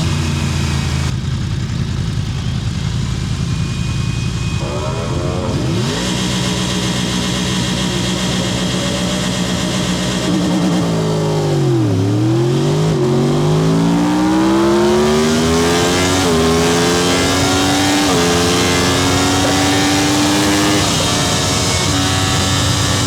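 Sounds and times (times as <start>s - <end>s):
racing motorcycle engine revving: 0.0s - 23.0s.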